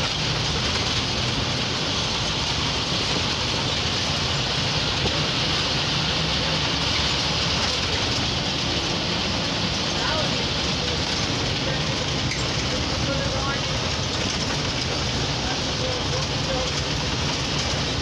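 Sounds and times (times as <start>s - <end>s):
bus diesel engine running: 0.0s - 18.0s
road noise: 0.0s - 18.0s.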